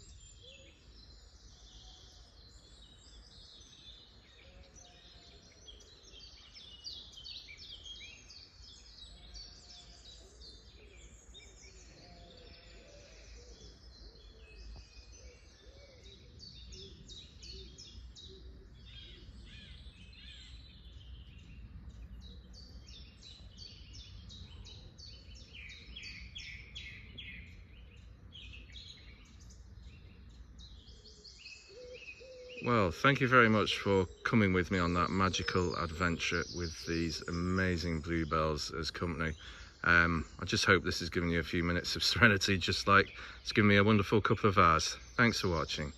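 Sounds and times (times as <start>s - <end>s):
small birds singing: 0.0s - 45.9s.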